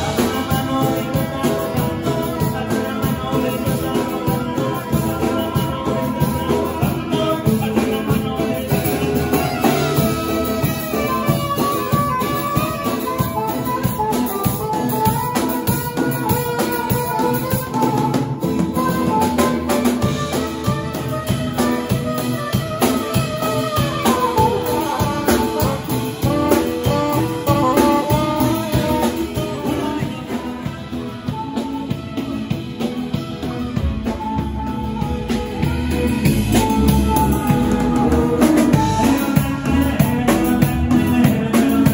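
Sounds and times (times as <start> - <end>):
drum kit: 0.0 - 41.9
saxophone melody: 0.0 - 41.9.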